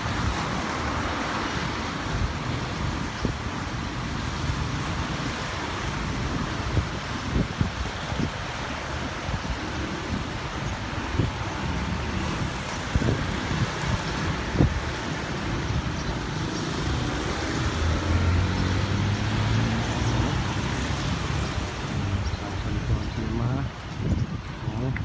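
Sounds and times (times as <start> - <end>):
road traffic noise: 0.0 - 25.0
wind on microphone: 0.0 - 25.0.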